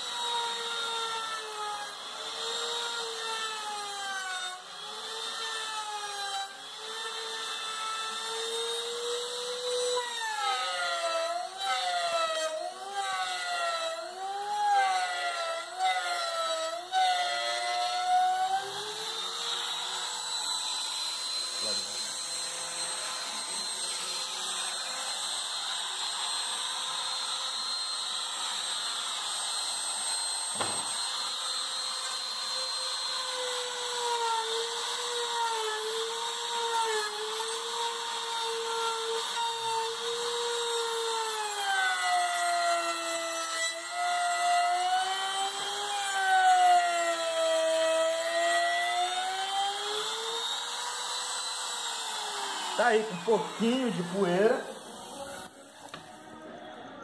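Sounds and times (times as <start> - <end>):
trim router motor whine: 0.0 - 56.9.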